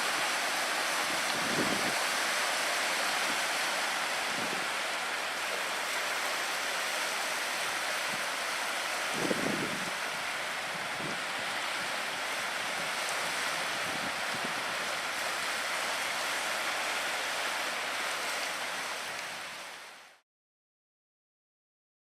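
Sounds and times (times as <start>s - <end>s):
water rushing: 0.0s - 20.2s
wind: 0.0s - 20.2s.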